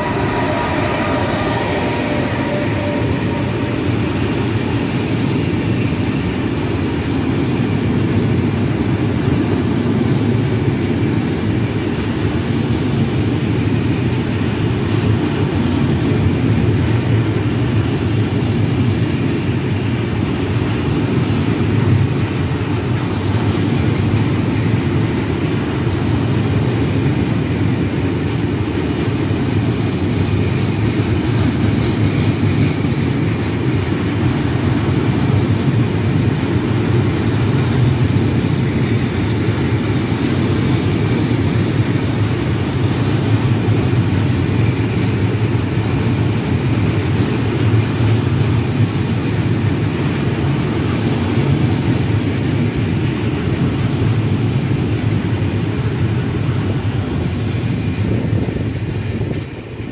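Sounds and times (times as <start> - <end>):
steel wheels rolling on rails: 0.0 - 59.9.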